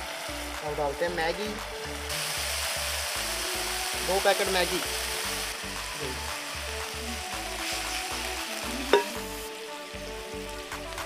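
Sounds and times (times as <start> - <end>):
noodles sizzling in a pan: 0.0 - 11.0.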